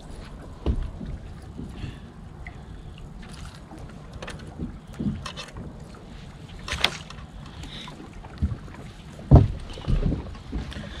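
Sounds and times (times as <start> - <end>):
low boat rumble: 0.0 - 11.0.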